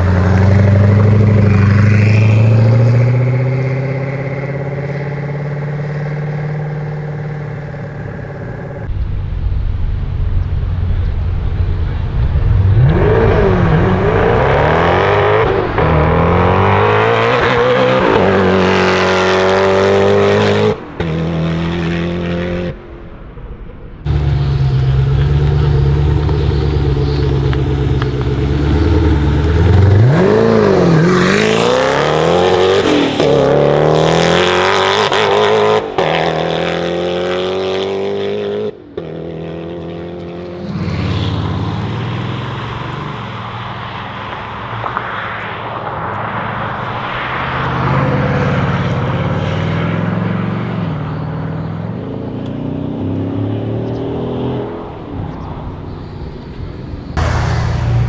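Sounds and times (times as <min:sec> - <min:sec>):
car engine revving: 0:00.0 - 0:23.0, 0:24.0 - 0:56.2, 0:56.8 - 0:58.0.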